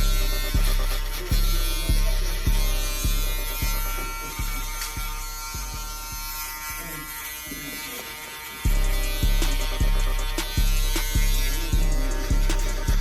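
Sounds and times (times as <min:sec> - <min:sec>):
music beat with deep bass: 0:00.0 - 0:06.6, 0:08.6 - 0:13.0
electric hair clipper buzzing: 0:00.0 - 0:13.0.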